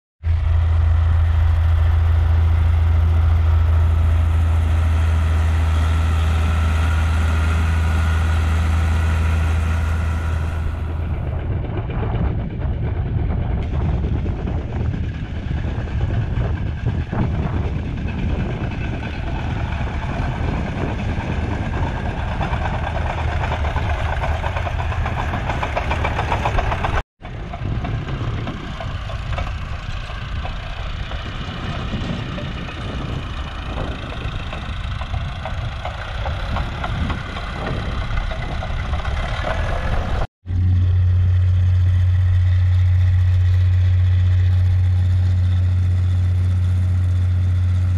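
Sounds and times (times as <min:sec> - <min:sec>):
tractor diesel engine humming: 0:00.2 - 0:47.9.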